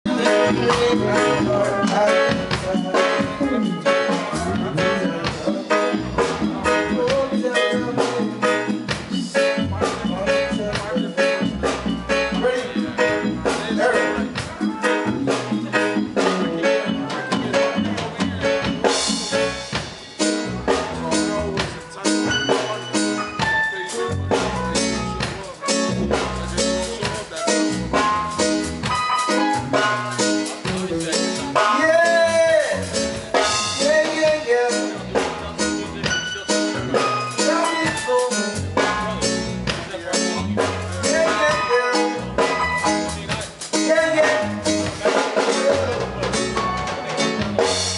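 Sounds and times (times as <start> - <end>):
live reggae band: 0.0 - 47.9.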